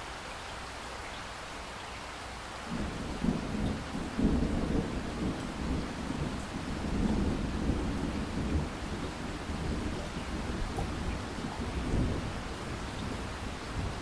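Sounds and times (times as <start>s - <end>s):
steady rainfall: 0.0s - 14.0s
thunder rumbling: 2.7s - 14.0s.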